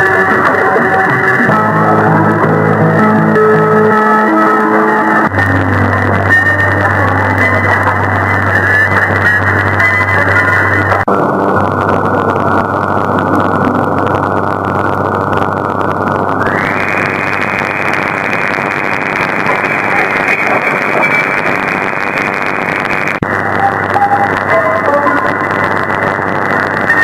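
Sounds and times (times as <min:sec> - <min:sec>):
radio static hiss: 0:00.0 - 0:27.0
weak radio broadcast: 0:00.0 - 0:27.0.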